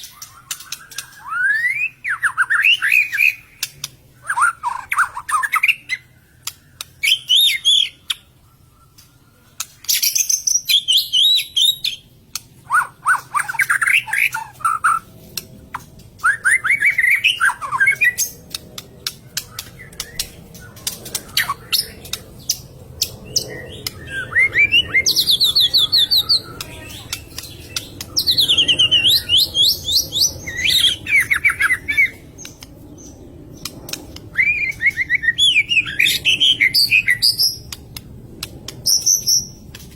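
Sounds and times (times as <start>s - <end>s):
bird singing: 0.0s - 15.1s, 15.7s - 37.8s
sharp bird clicks: 0.0s - 39.9s.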